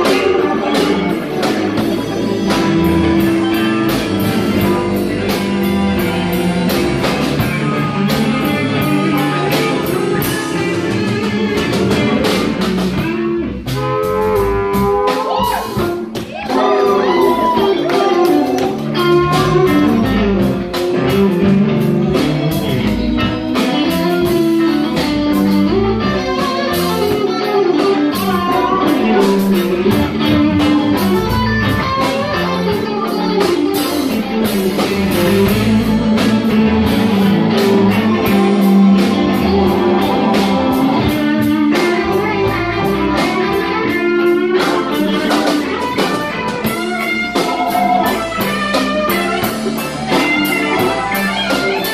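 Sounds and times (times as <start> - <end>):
guitar playing: 0.0 - 51.9
steady drum beat: 0.0 - 51.9.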